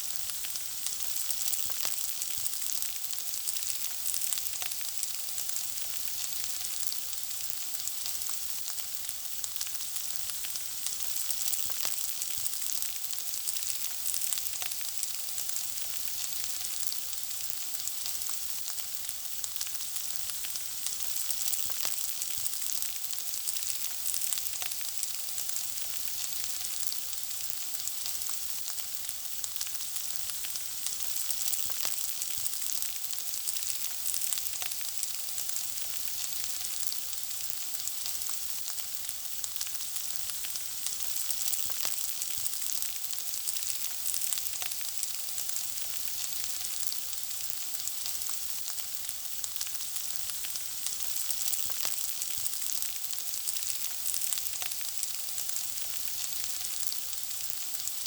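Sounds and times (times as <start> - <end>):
food frying in hot oil: 0.0 - 58.0.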